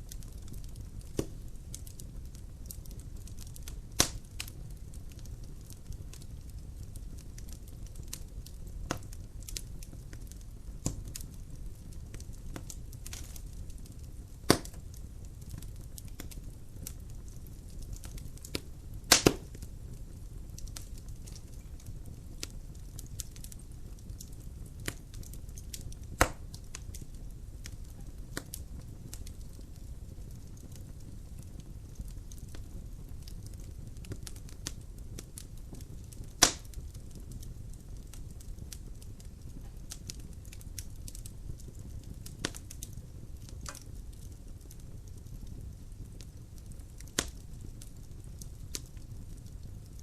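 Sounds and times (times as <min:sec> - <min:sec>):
logs crackling in fireplace: 0:00.0 - 0:50.0
low rumble of fire: 0:00.0 - 0:50.0.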